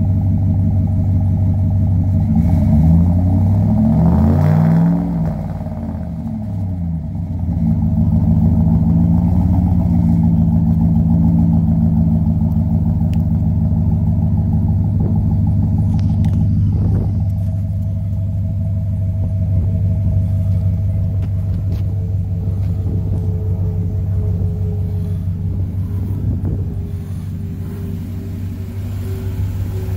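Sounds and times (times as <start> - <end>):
pickup truck engine idling: 0.0 - 2.4, 5.0 - 29.9.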